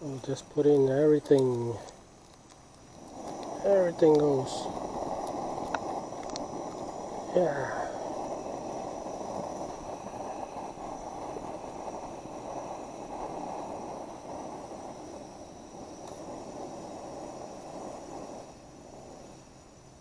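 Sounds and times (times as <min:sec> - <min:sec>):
broth boiling in a pan: 0:00.0 - 0:20.0.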